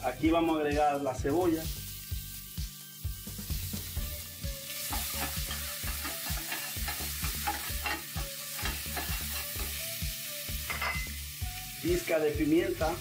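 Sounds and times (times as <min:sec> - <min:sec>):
onion sizzling in oil: 0:00.0 - 0:13.0.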